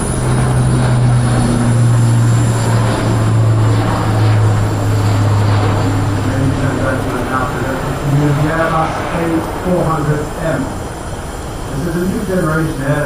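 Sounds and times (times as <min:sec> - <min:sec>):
turboprop aircraft drone: 0:00.0 - 0:13.0.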